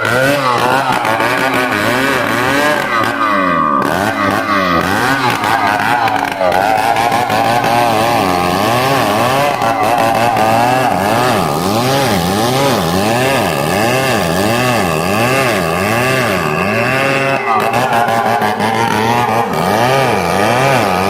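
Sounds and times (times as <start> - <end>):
chainsaw cutting into tree trunk: 0.0 - 21.0.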